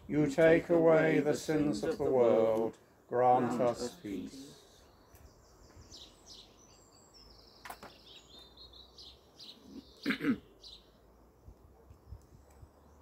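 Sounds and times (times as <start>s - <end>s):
small birds singing: 0.0s - 13.0s.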